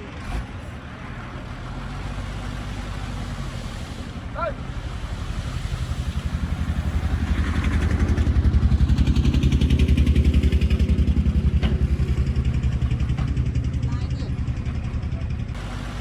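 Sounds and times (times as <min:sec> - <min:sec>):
heavy machine diesel engine: 0:00.0 - 0:16.0.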